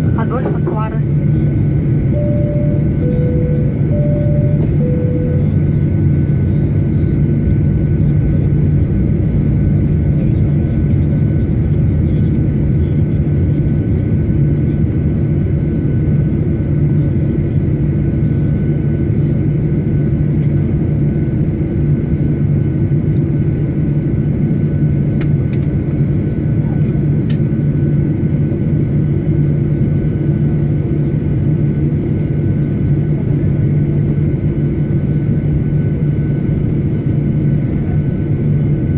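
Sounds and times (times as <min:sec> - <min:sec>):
faint steady whines: 0:00.0 - 0:38.9
low engine rumble in cabin: 0:00.0 - 0:38.9.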